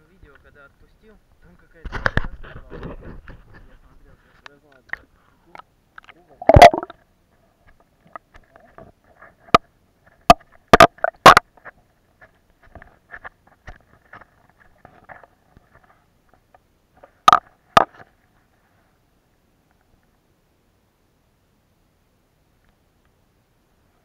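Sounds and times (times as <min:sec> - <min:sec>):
faint irregular crackling: 0:00.0 - 0:20.3.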